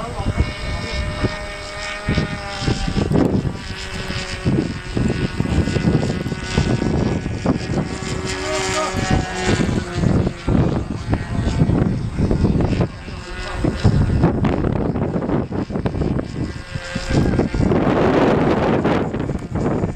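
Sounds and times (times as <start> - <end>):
model airplane motor whining: 0.0 - 19.9
wind rumbling on microphone: 0.0 - 19.9.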